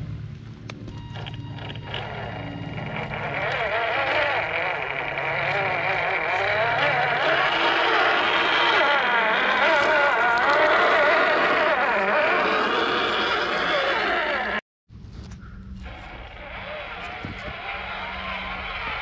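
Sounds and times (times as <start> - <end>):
toy truck electric motor whining: 1.2 - 14.6, 15.8 - 19.0.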